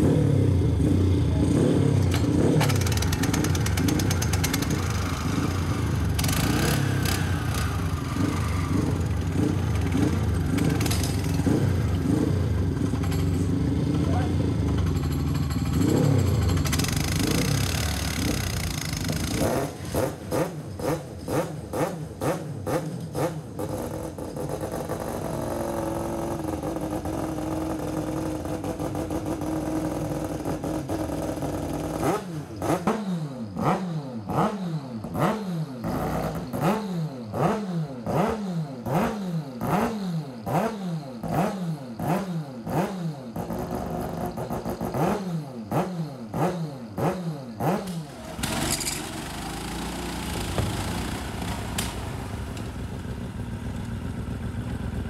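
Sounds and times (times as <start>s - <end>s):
race motorcycle engine revving: 0.0s - 55.0s.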